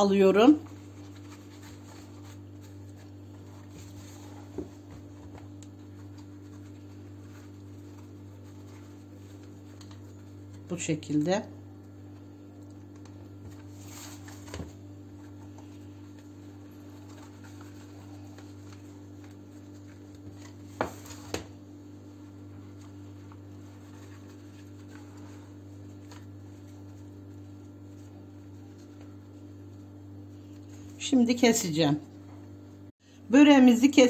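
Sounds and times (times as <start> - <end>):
pastry sheets rustling: 0.0 - 32.6.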